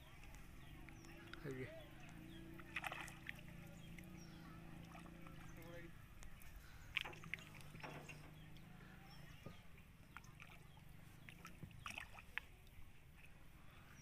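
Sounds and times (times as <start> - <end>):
fish splashing in water: 2.0 - 13.4.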